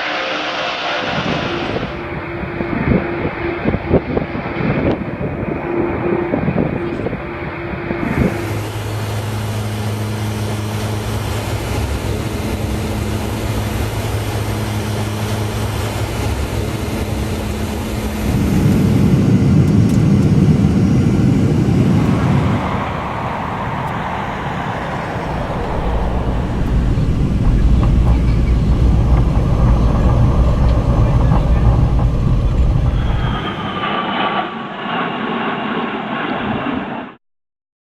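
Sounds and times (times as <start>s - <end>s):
aircraft engines running: 0.0s - 37.1s.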